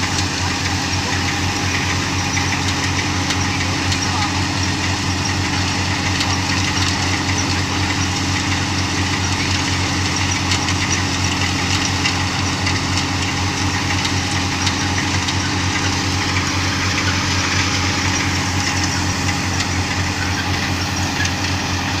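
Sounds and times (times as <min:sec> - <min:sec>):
thresher mechanical rattle and hiss: 0:00.0 - 0:22.0
tractor diesel engine running: 0:00.0 - 0:22.0.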